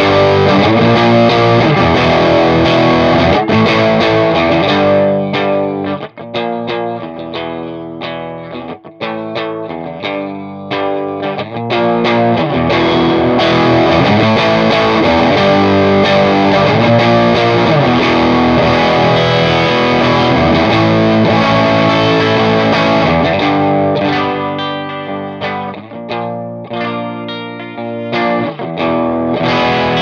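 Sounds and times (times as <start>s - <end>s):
distorted electric guitar: 0.0s - 30.0s.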